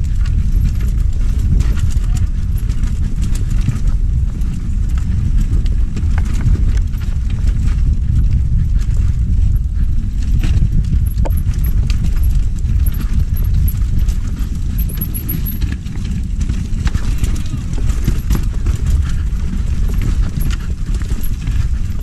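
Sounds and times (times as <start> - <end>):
bike rattling and knocking: 0.0 - 22.0
mountain bike rumbling on dirt trail: 0.0 - 22.0.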